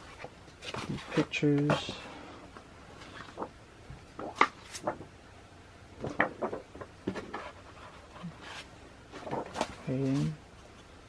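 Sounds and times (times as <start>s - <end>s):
paper prints rustling and tapping: 0.0s - 5.1s, 6.0s - 10.9s.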